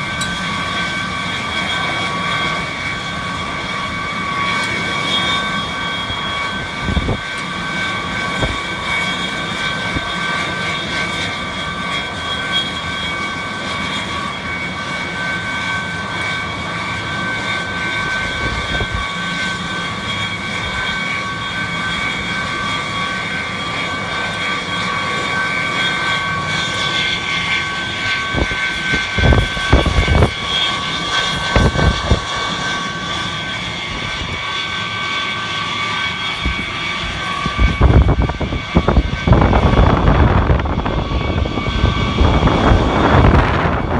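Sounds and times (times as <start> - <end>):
wind buffeting microphone: 0.0 - 12.2, 17.3 - 43.9
rail de-icing machine running: 0.0 - 43.9.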